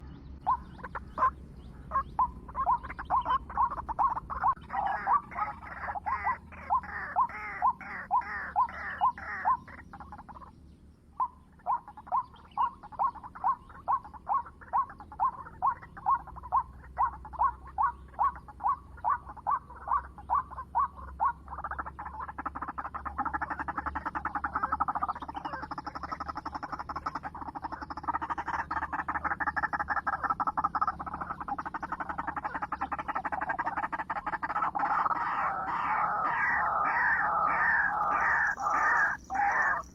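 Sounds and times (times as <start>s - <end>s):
waterhen croaking calls: 0.0s - 10.5s, 11.1s - 39.9s.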